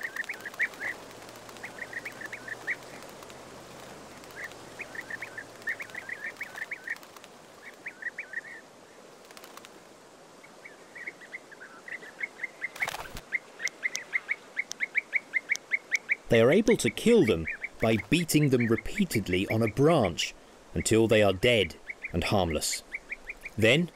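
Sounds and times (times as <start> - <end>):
bee-eaters calling: 0.0 - 3.1, 4.1 - 8.6, 10.6 - 23.9.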